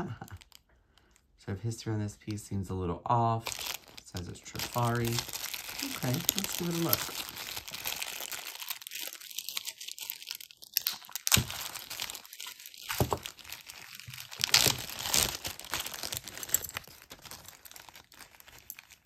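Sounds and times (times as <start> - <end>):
wrapping crinkling and crunching: 0.0 - 1.2, 3.4 - 19.0.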